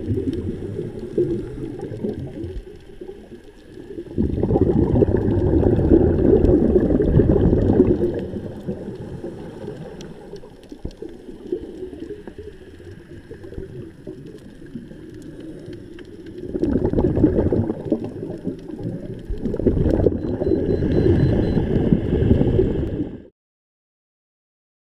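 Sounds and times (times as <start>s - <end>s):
underwater exhaust bubbles rushing: 0.0s - 23.3s.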